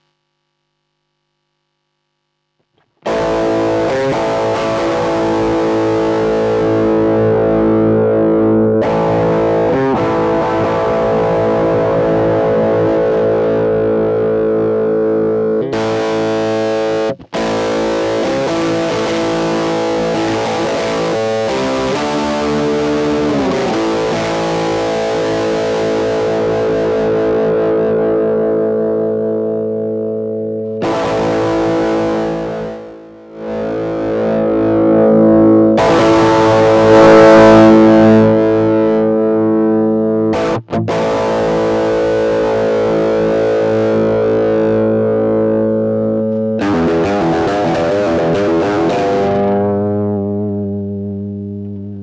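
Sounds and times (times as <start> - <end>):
distorted electric guitar chords: 0.0 - 52.0.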